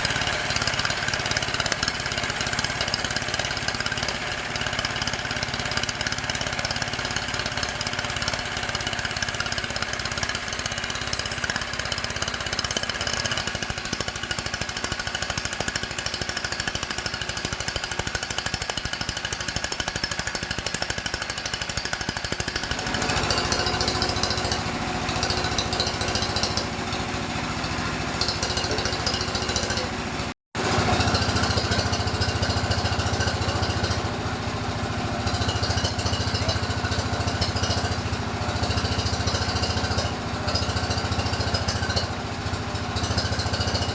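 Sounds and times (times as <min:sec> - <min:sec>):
sawmill machinery droning: 0:00.0 - 0:43.9.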